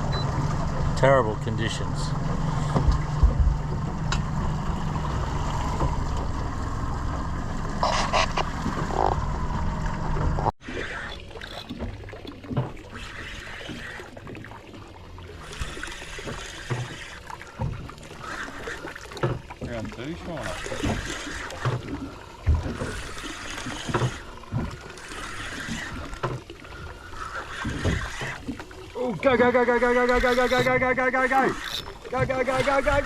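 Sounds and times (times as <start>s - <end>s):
outboard boat engine drone: 0.0s - 33.0s
wind and water rushing: 0.0s - 33.0s.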